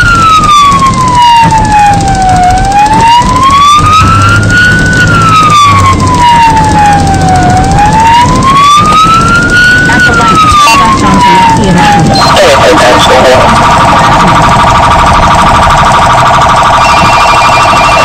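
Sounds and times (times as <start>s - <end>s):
siren wailing: 0.0s - 18.0s
vehicle engine and road noise: 0.0s - 18.0s.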